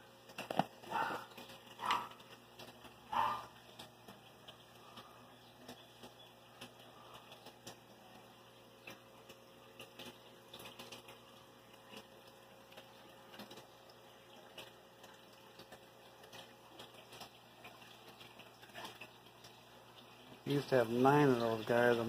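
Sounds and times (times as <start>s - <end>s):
aquarium filter water bubbling: 0.0s - 22.0s
low steady hum: 0.0s - 22.0s.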